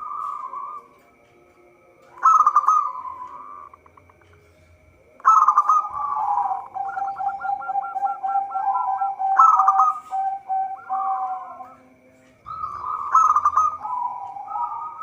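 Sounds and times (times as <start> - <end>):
dove cooing: 0.0 - 1.0, 2.0 - 15.0.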